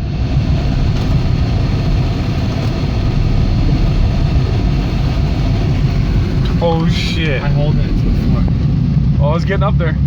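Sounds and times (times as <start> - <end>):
engine revving hard: 0.4 - 8.5.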